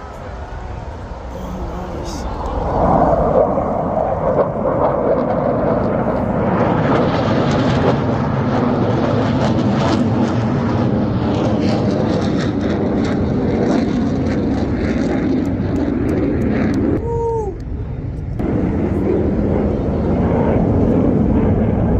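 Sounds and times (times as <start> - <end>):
jets flying past overhead: 0.0 - 21.9.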